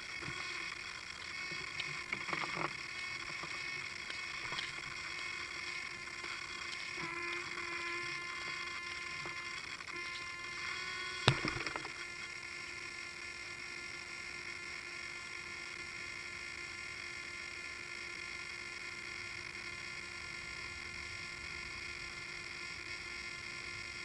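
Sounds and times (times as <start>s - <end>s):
rc helicopter drive whine: 0.0s - 24.0s.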